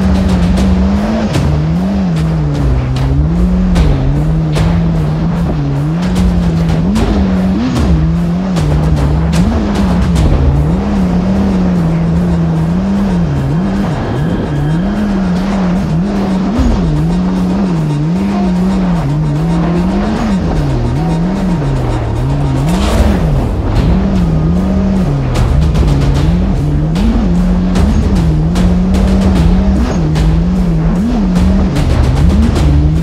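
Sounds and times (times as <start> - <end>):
jet ski engine running: 0.0 - 33.0.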